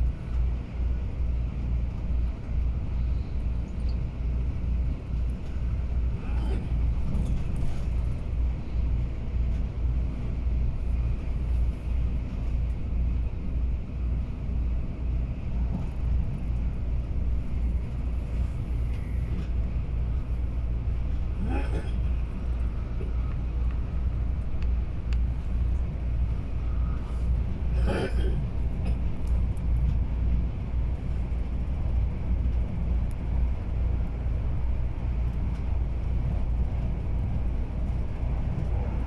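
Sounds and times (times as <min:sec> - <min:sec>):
train carriage rumble: 0:00.0 - 0:39.0.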